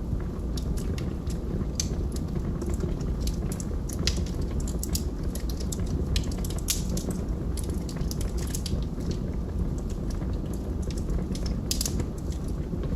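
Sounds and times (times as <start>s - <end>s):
low rumble of flames: 0.0s - 12.9s
burning wood snapping and popping: 0.1s - 12.9s.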